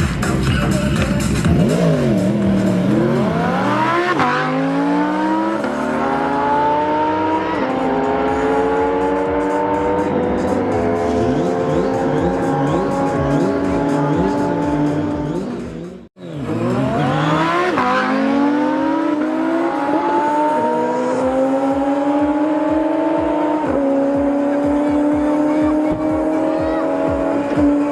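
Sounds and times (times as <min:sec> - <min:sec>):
engines accelerating through gears: 0:00.7 - 0:27.9.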